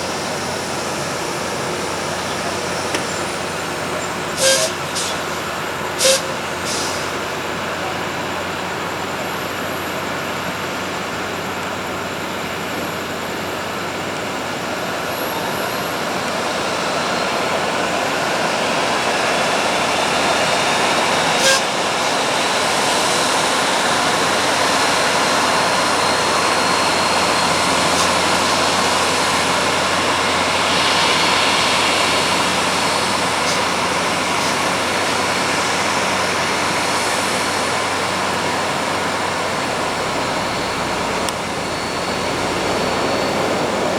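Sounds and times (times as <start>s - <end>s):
jet engines roaring with whine: 0.0s - 43.9s.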